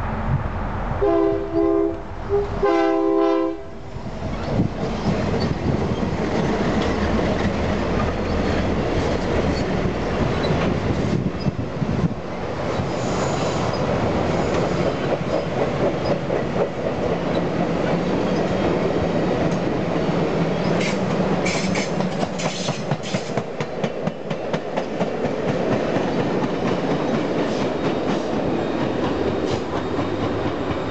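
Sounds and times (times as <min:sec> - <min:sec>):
train wheels rumbling on rail: 0:00.0 - 0:30.9
clickety-clack over rail joints: 0:04.2 - 0:30.9.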